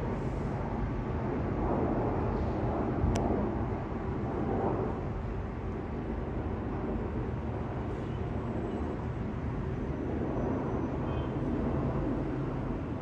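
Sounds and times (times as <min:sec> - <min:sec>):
jet engines passing overhead: 0:00.0 - 0:13.0.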